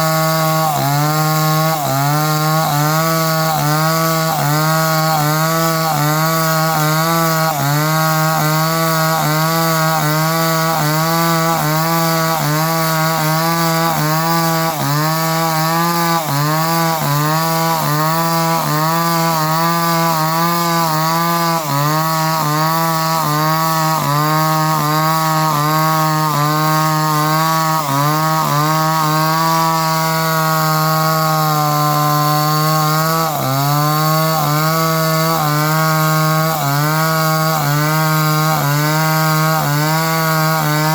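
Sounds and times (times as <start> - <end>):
chainsaw engine running: 0.0 - 40.9.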